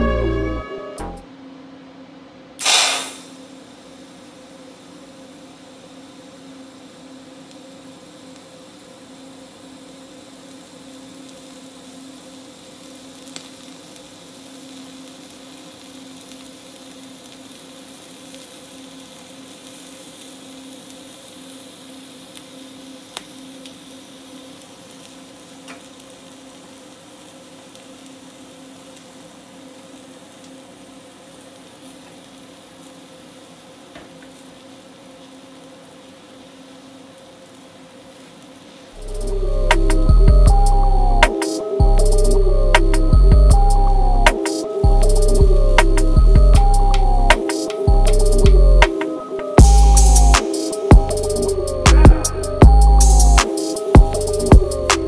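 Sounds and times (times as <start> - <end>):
welding arc hissing and crackling: 2.6 - 55.0.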